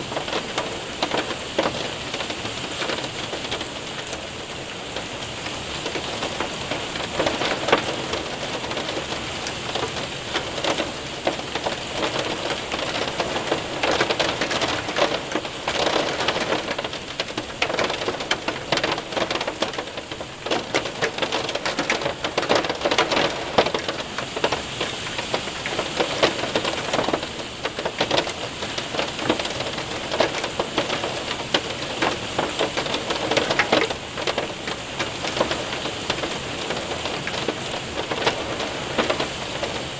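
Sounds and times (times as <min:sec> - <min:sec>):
hailstones ticking: 0:00.0 - 0:39.9
heavy rain hiss: 0:00.0 - 0:39.9.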